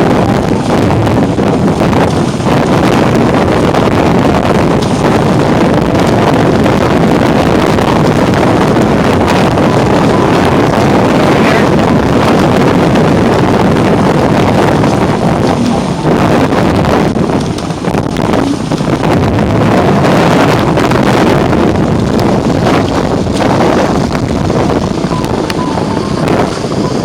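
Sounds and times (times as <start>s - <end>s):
rushing water: 0.0s - 27.0s
wind buffeting microphone: 0.0s - 27.0s.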